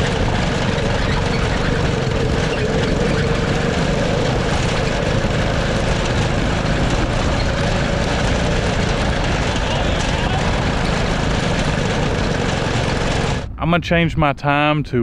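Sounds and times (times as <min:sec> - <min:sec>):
go-kart engine running: 0:00.0 - 0:13.6.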